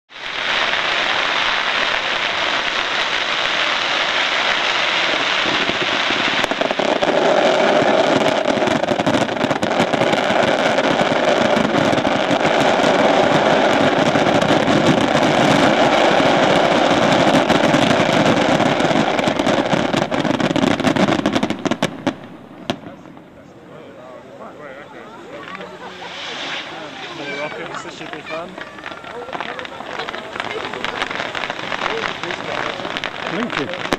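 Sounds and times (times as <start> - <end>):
fireworks bursting: 0.1 - 23.5, 24.4 - 33.9.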